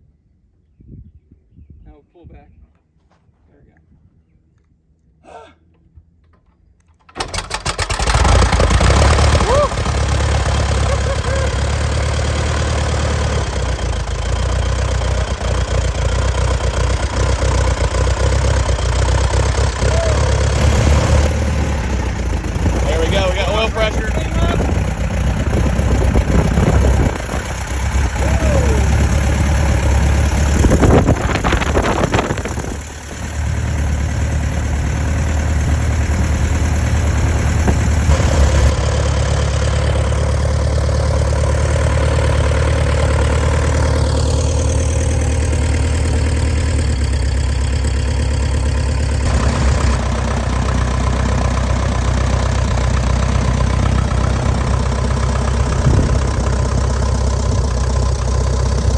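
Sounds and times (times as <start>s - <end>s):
airplane engine idling: 5.4s - 58.9s.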